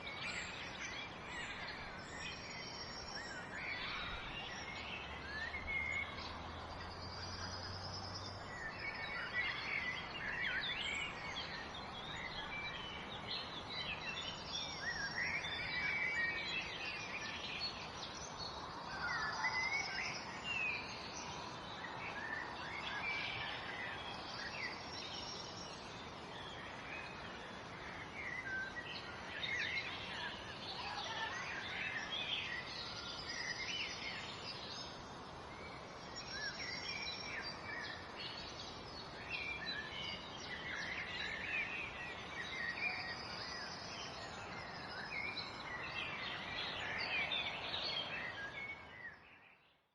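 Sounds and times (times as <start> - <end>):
steady background hiss: 0.0 - 49.3
birds chirping and trilling: 0.0 - 49.8.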